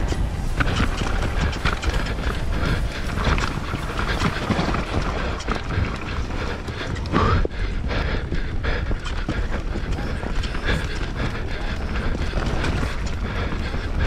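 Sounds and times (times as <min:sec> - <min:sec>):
bike tyres clattering over rocks: 0:00.0 - 0:07.6, 0:08.9 - 0:14.0
bike chain and frame rattling: 0:00.0 - 0:14.0
wind rumble on microphone: 0:00.0 - 0:14.0.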